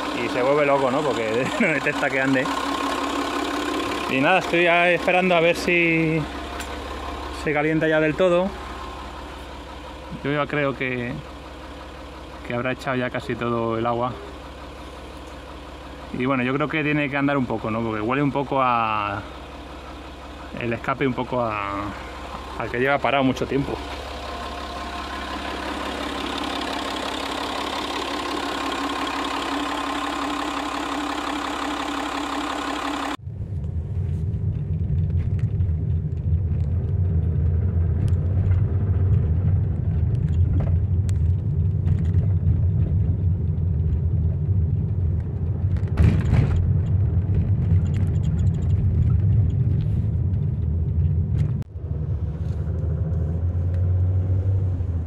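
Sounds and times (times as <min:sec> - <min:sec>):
deep engine rumble with knocks: 0:00.0 - 0:55.0
diesel engine running: 0:00.0 - 0:55.0.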